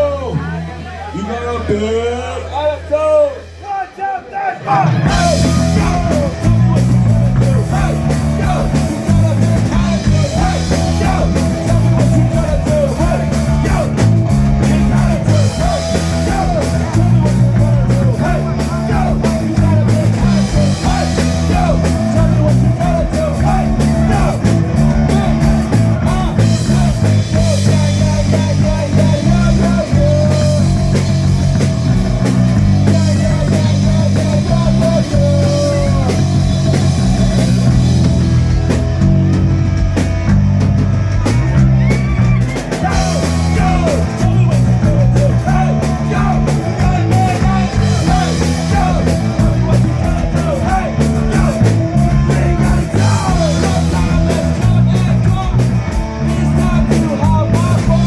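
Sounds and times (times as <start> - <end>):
bass guitar riff: 0.0 - 3.6, 4.6 - 58.0
drum kit: 3.0 - 58.0
electric guitar lead: 4.9 - 58.0.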